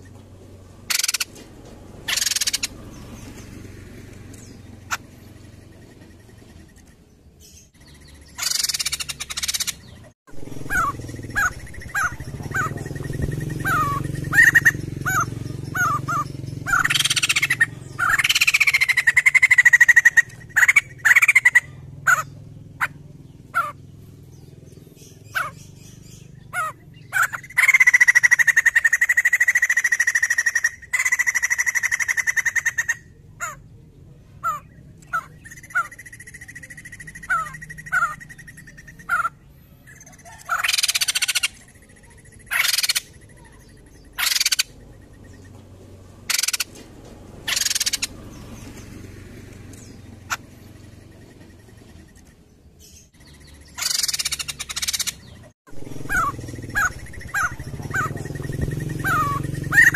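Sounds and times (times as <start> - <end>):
bird calling: 0.0 - 59.9.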